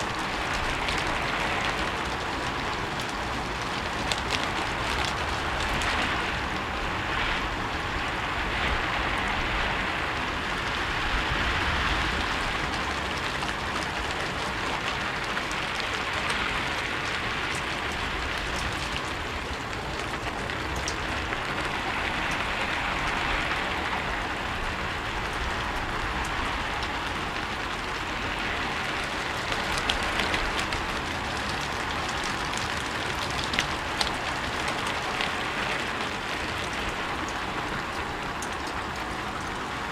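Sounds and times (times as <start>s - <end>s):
rain on a rooftop: 0.0s - 39.9s.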